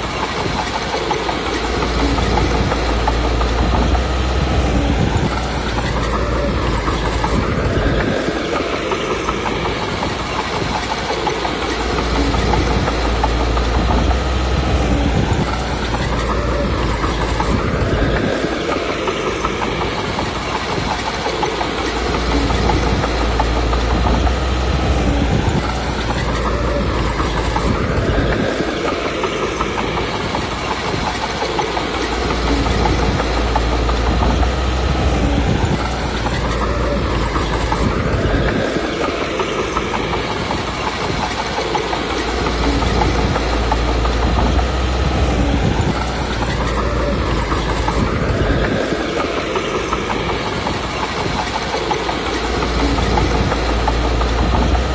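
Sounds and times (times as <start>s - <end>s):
bulldozer diesel engine: 0.0s - 54.9s.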